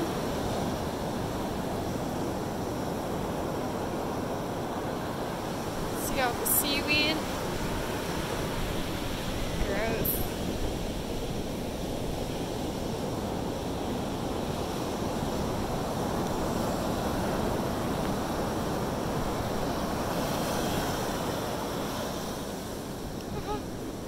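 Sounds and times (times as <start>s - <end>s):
ocean surf breaking on beach: 0.0s - 24.0s
wind rumbling on microphone: 0.0s - 24.0s.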